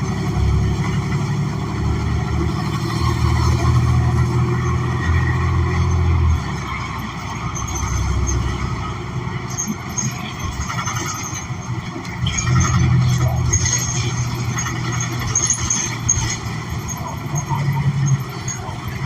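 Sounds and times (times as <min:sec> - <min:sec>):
bus engine hum: 0:00.0 - 0:19.0
road noise: 0:00.0 - 0:19.0.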